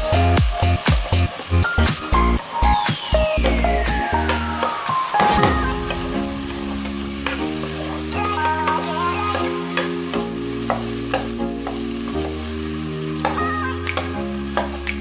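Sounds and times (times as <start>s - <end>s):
food sizzling in a pan: 0.0s - 15.0s
sustained background music: 2.0s - 15.0s.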